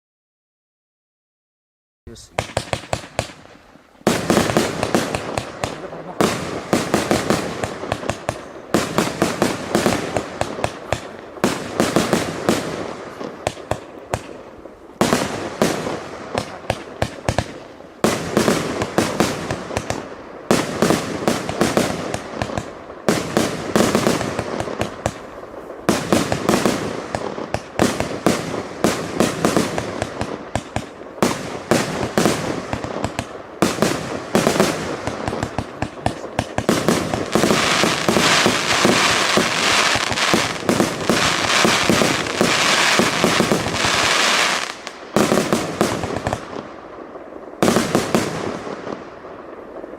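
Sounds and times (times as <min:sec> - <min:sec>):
fireworks bangs and crackles: 0:02.1 - 0:49.9.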